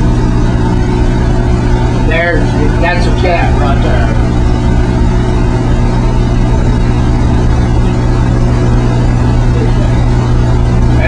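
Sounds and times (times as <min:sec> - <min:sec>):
welding machine drone: 0:00.0 - 0:11.0.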